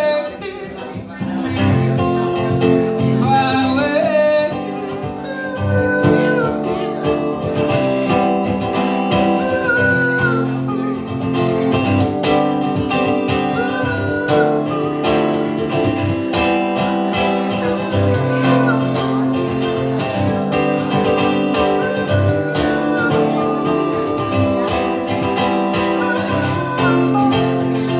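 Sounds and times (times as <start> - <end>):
strummed acoustic guitar chords: 0.0 - 27.9.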